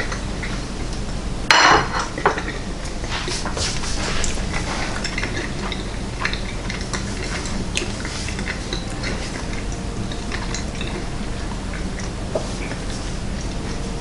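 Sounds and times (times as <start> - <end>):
steady low hum: 0.0 - 14.0
person chewing food: 2.4 - 14.0.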